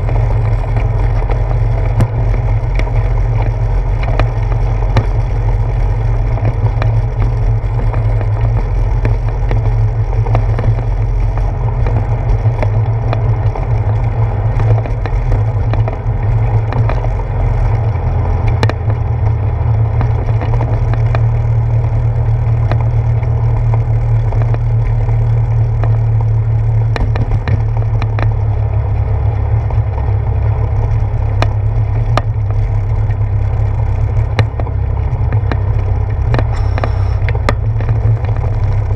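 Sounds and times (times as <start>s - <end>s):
bicycle rolling over wooden boards: 0.0s - 38.9s
small clicks and rattles: 0.0s - 38.9s.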